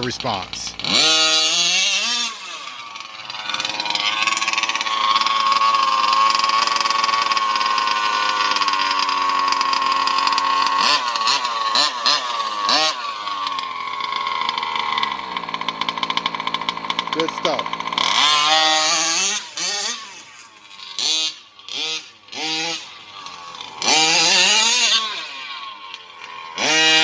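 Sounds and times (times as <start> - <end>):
small two-stroke engine revving: 0.0 - 27.0.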